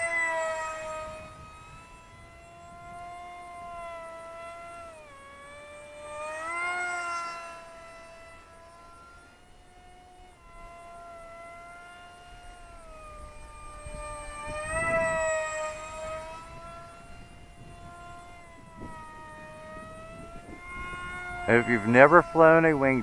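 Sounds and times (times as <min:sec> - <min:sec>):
electric motor and propeller whine: 0:00.0 - 0:23.0.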